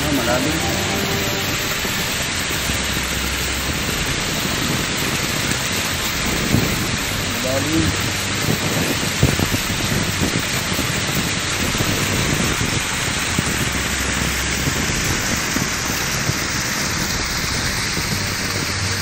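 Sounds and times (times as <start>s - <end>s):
waterfall rushing and splashing: 0.0s - 19.0s.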